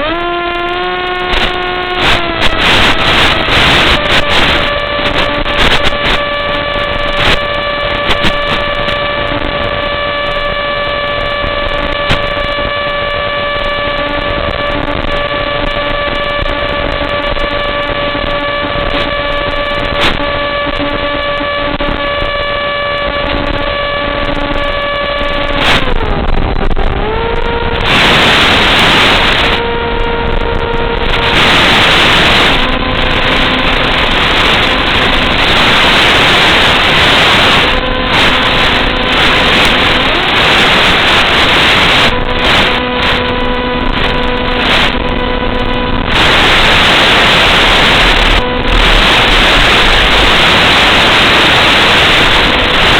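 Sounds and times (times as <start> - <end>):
model airplane motor humming: 0.0 - 52.9.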